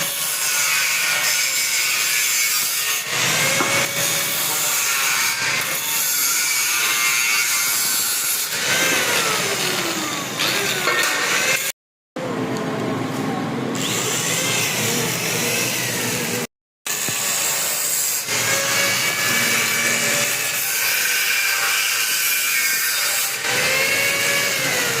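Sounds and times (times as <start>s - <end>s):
power tool on steel: 0.0s - 12.3s, 13.2s - 25.0s.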